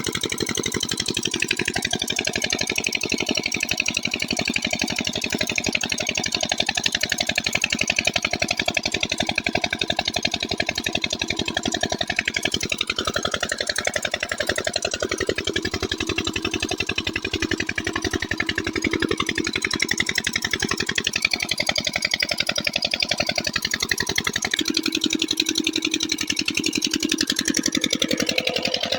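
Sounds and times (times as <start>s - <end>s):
diesel pump engine running: 0.0s - 28.9s.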